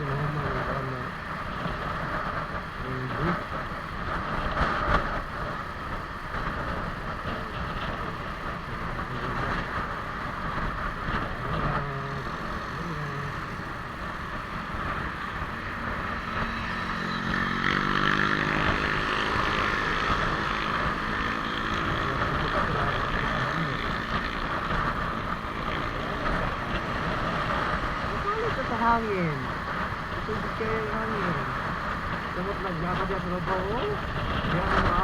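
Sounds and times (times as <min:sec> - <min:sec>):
motorcycle engine running: 0:00.0 - 0:35.0
wind and road noise: 0:00.0 - 0:35.0.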